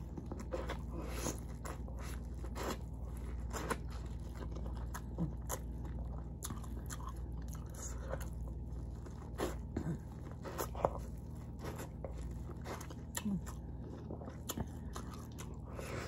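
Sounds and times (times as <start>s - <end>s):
chewing corn on the cob: 0.0s - 16.0s.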